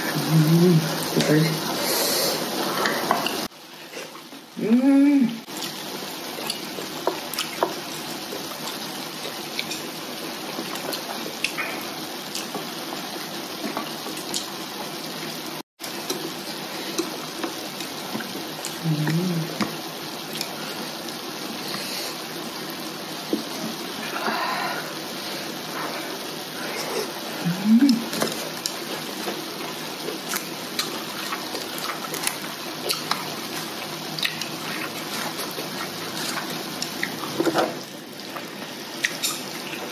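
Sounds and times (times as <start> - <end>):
broth bubbling in a pot: 5.4 - 39.9.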